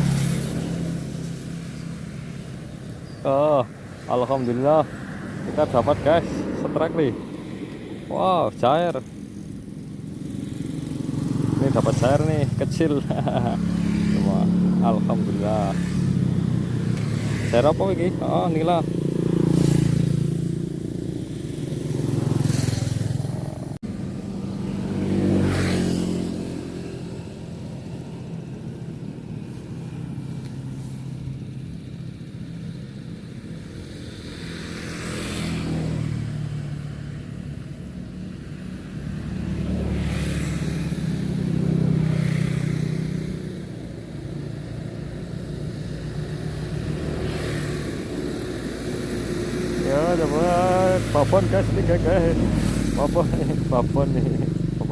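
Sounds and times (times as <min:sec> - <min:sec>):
motor vehicles passing: 0:00.0 - 0:54.9.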